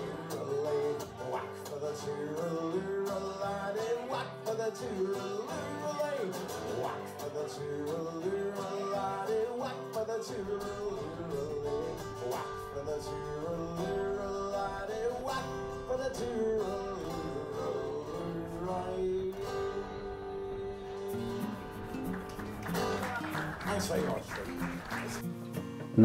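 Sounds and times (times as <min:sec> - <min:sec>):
man singing: 0:00.0 - 0:22.0
acoustic guitar strumming: 0:00.0 - 0:26.0.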